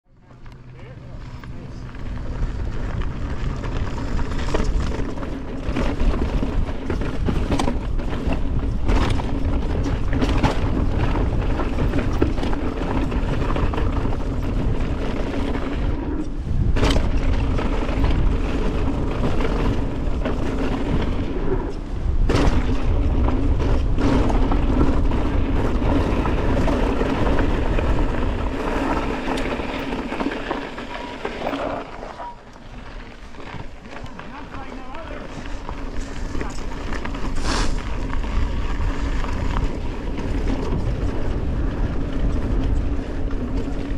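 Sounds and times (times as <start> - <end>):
bike knocking and rattling: 0.1 - 43.9
bike tyres rumbling on gravel: 0.1 - 43.9
wind buffeting microphone: 0.5 - 43.9.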